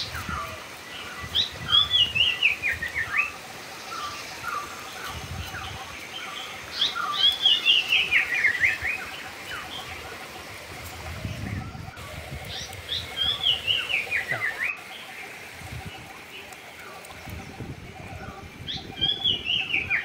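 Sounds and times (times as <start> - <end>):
songbird chirping and whistling: 0.0 - 10.1, 11.2 - 15.1, 17.1 - 20.0.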